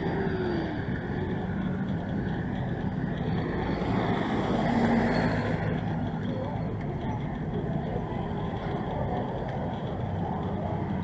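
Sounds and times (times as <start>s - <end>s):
city traffic cars passing: 0.0s - 11.0s.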